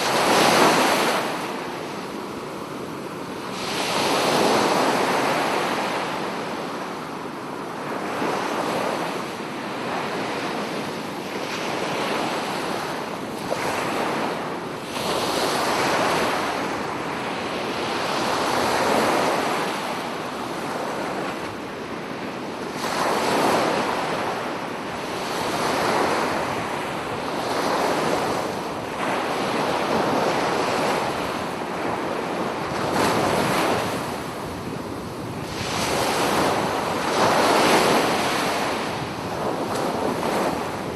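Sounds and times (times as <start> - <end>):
sea waves breaking on shore: 0.0 - 40.9
wind on microphone: 0.0 - 40.9.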